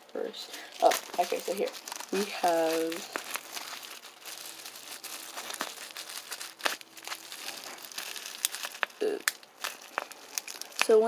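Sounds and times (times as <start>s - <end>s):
plastic wrapping crinkling: 0.2s - 11.0s.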